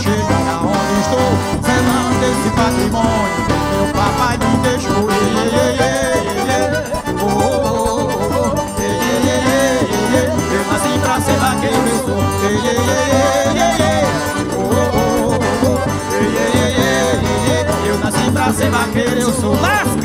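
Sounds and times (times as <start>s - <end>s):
accordion melody: 0.0s - 20.0s
bass drum: 0.0s - 20.0s
electric bass: 0.0s - 20.0s.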